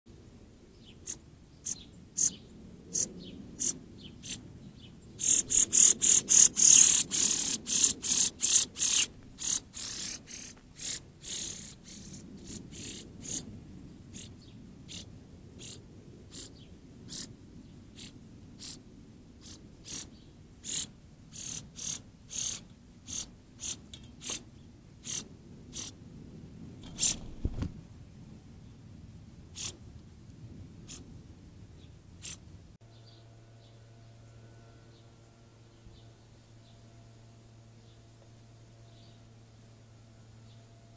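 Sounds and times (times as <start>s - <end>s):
songbirds chip notes: 0.6s - 26.0s, 30.8s - 40.9s.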